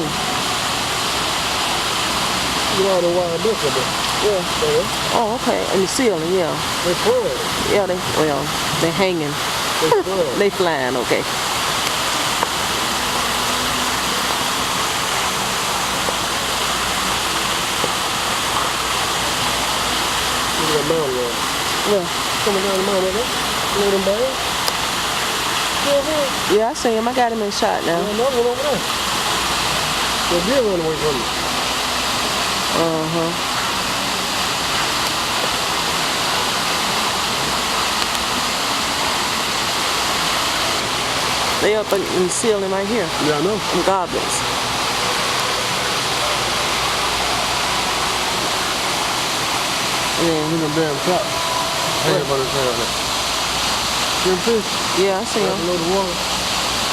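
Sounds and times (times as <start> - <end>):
water rushing from waterfall: 0.0 - 56.9.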